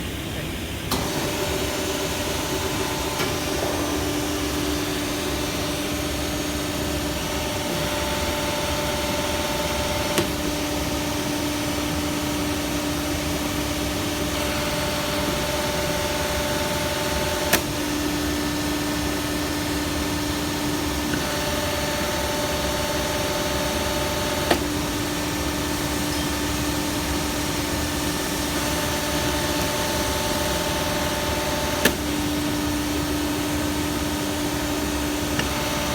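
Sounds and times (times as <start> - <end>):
machine hum: 0.0 - 35.9.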